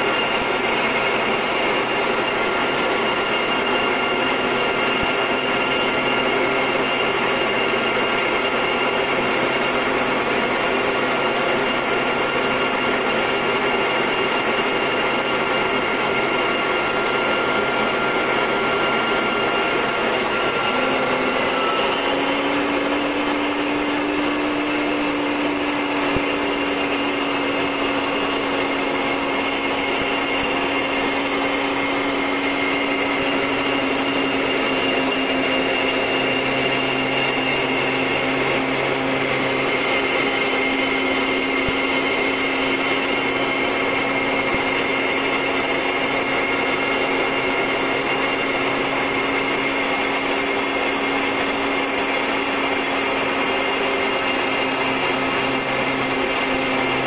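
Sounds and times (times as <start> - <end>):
turboprop engine drone: 0.0 - 57.0.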